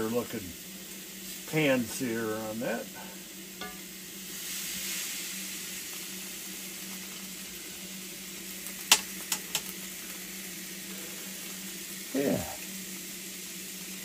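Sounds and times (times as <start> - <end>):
faint steady hum: 0.0 - 14.0
steak sizzling in grill pan: 0.0 - 14.0.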